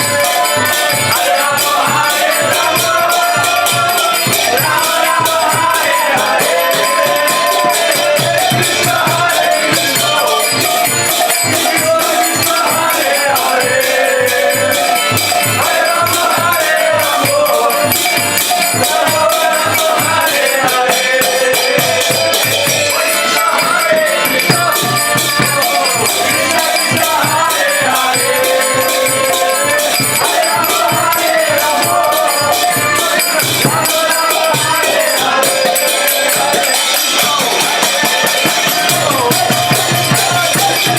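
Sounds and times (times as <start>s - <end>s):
hand cymbals clashing: 0.0s - 40.9s
melodic chant: 0.0s - 40.9s.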